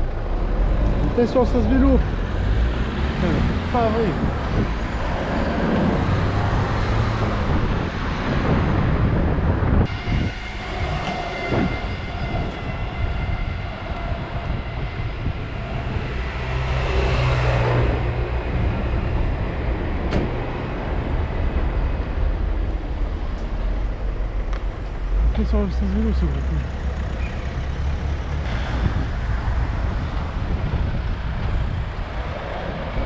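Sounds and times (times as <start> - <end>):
city traffic: 0.0 - 33.0
wind on microphone: 2.0 - 25.2, 27.2 - 33.0.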